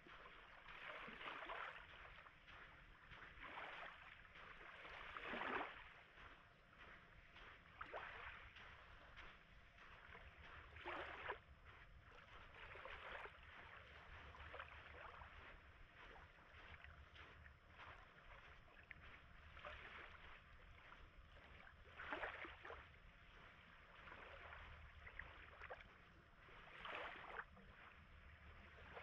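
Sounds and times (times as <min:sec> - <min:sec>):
faint small waves washing in: 0:00.0 - 0:29.0.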